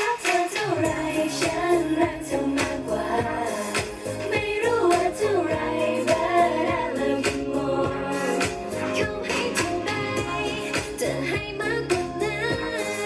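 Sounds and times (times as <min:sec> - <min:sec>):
backing track with drum beat: 0:00.0 - 0:13.0
women singing pop song: 0:00.0 - 0:13.0.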